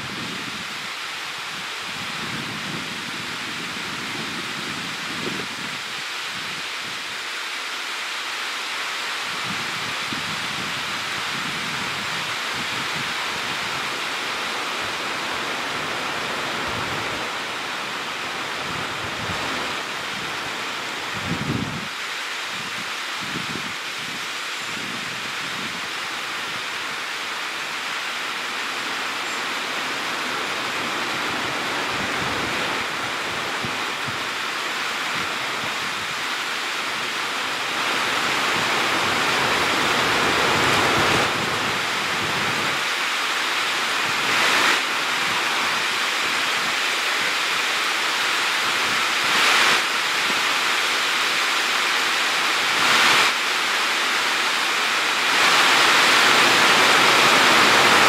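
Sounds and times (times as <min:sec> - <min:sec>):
steady rushing noise: 0:09.3 - 0:58.0.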